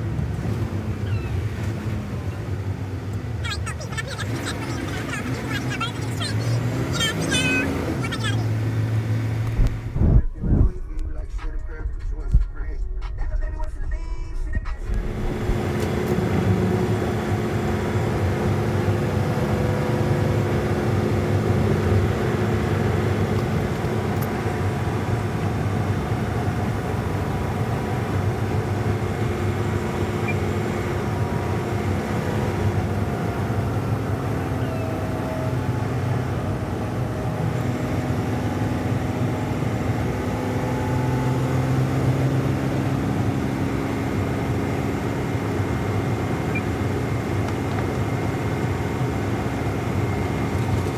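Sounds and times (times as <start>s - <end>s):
road noise: 0.0s - 10.6s, 14.7s - 50.9s
truck engine droning: 0.0s - 11.4s, 13.3s - 50.9s.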